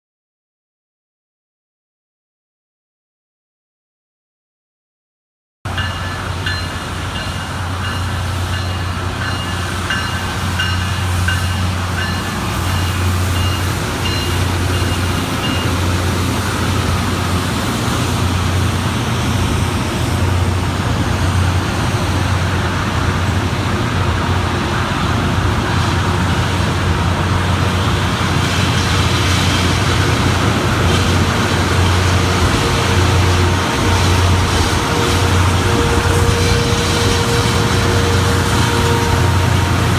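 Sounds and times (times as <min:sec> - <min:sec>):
rail grinder grinding: 0:05.7 - 0:39.9.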